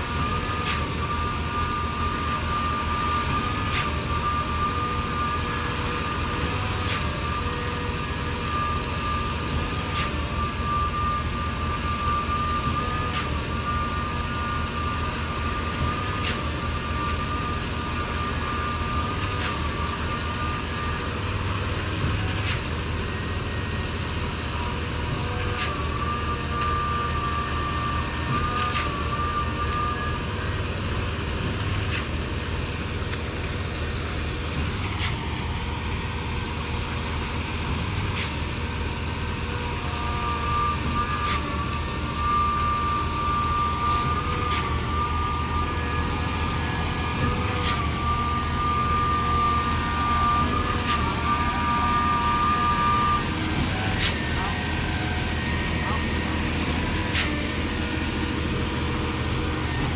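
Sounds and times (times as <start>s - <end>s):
pump engine droning with whine: 0.0s - 59.9s.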